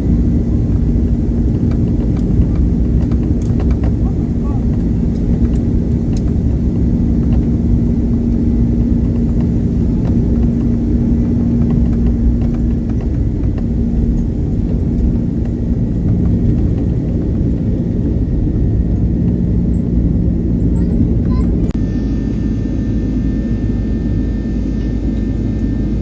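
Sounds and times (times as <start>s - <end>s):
jet engine rumble in cabin: 0.0s - 26.0s
steady low hum: 0.0s - 26.0s.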